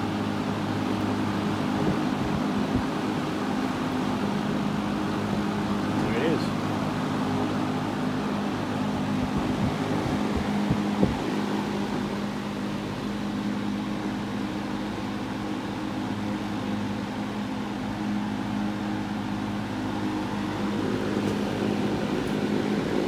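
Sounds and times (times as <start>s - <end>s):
box fan humming: 0.0s - 23.0s.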